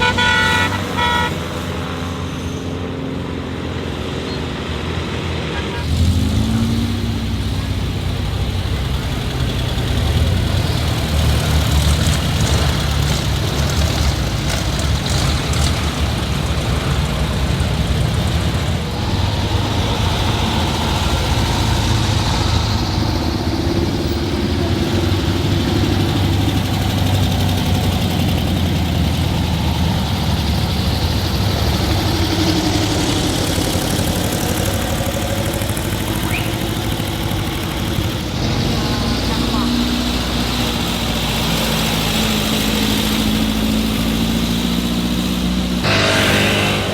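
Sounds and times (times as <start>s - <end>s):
car engines idling: 0.0s - 46.9s.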